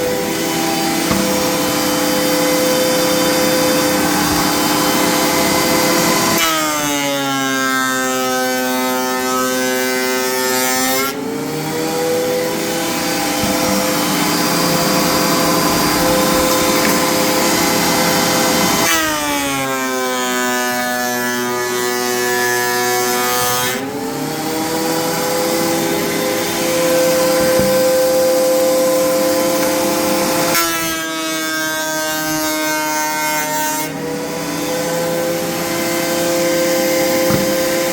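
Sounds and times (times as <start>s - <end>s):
thickness planer motor whine: 0.0s - 37.9s.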